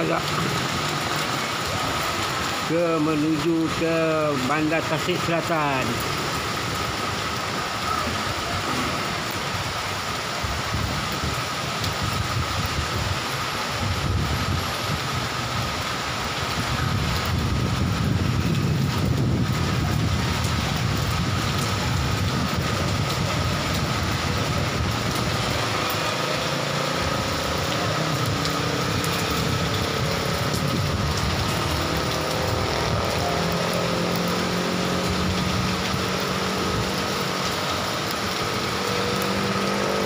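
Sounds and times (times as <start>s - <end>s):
heavy rain: 0.0s - 40.0s
traffic rumble: 0.0s - 40.0s.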